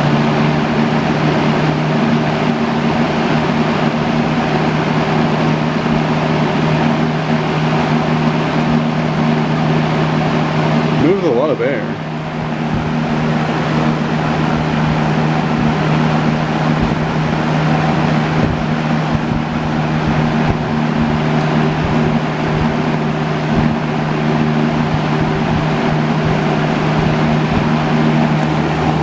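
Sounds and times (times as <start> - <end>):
electric fan running: 0.0 - 29.0.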